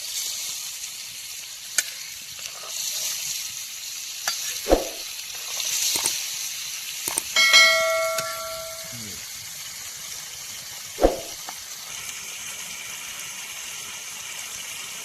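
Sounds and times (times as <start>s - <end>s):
curry sizzling in a pot: 0.0s - 8.1s, 9.0s - 15.0s.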